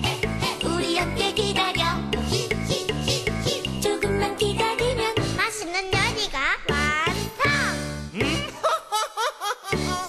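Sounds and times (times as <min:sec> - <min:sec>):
children's tv show music: 0:00.0 - 0:10.0.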